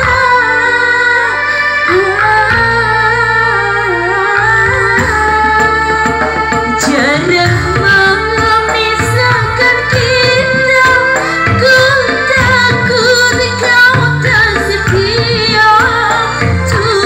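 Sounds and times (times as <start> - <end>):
electronic keyboard band playing: 0.0 - 17.0
woman singing through microphones: 0.0 - 17.0.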